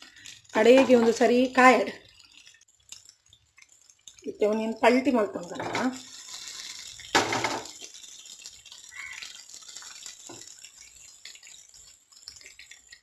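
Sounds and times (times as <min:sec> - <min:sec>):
wooden spatula turning fish: 0:00.0 - 0:12.9
fish sizzling in oil: 0:00.0 - 0:13.0.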